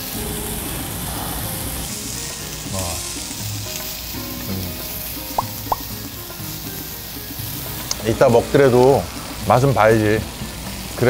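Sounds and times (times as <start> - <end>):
meat sizzling on grill plate: 0.0 - 11.0.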